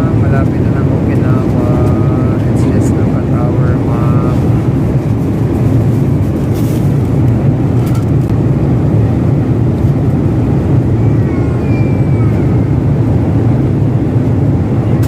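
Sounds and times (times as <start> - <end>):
jet engine cabin roar: 0.0 - 15.0.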